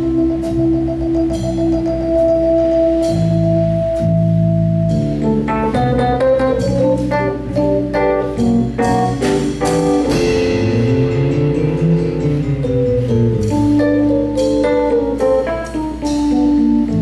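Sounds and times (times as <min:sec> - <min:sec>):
drum kit: 0:00.0 - 0:17.0
organ chords: 0:00.0 - 0:17.0.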